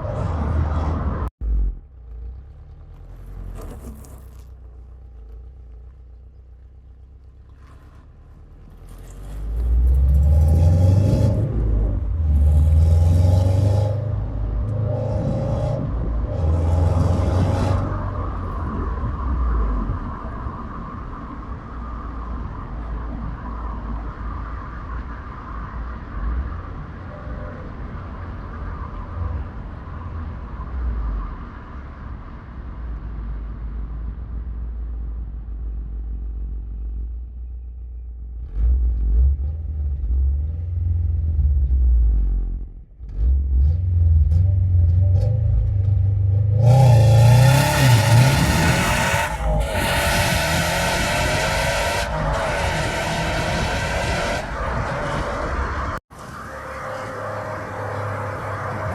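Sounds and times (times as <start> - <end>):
car engine rumbling: 0.0 - 58.9.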